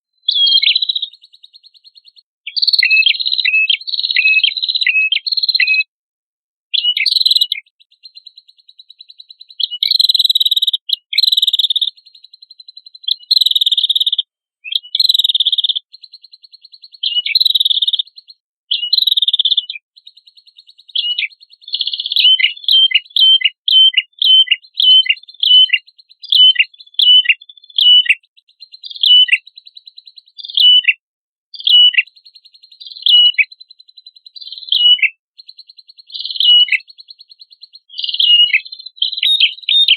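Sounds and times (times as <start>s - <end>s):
songbird singing trills: 0.1s - 5.9s, 6.7s - 39.9s.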